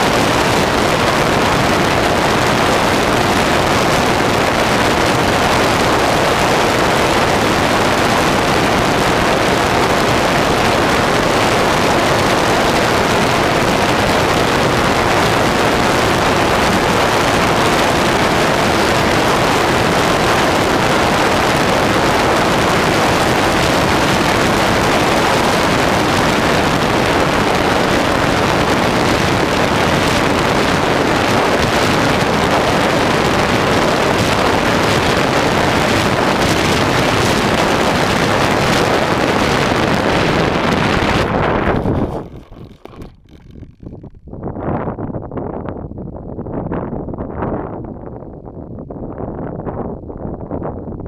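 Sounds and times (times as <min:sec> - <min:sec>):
model plane motor and propeller: 0:00.0 - 0:44.2
airflow rushing on microphone: 0:00.0 - 0:44.6.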